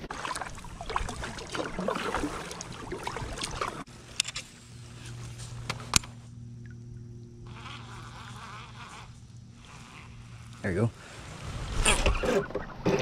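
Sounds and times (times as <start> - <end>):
water lapping against kayak hull: 0.0 - 4.1, 4.7 - 13.0
steady low hum: 0.0 - 12.9.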